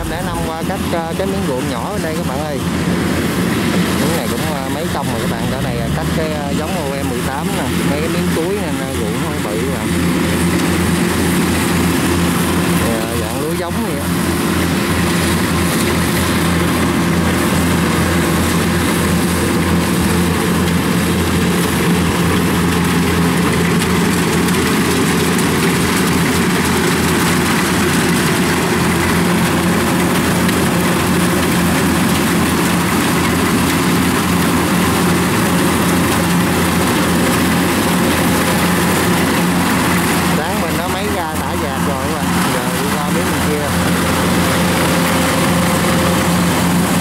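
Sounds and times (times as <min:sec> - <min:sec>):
combine harvester diesel engine: 0:00.0 - 0:47.0.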